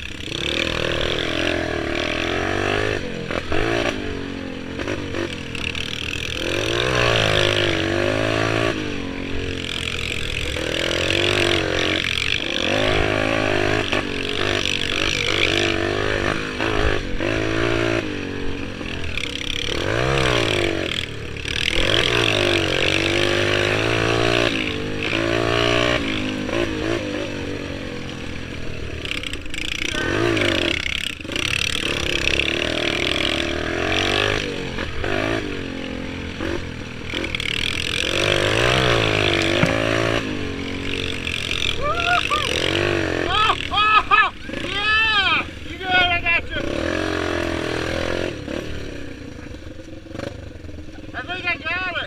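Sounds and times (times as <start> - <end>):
motorbike engine revving: 0.0 - 52.0.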